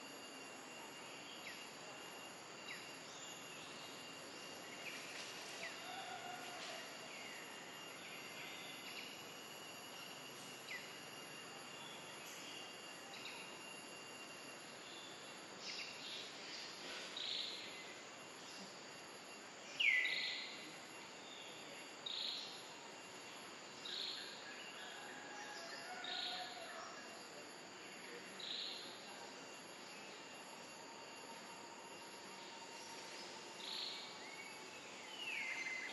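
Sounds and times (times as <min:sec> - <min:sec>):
high insect drone: 0:00.0 - 0:35.9.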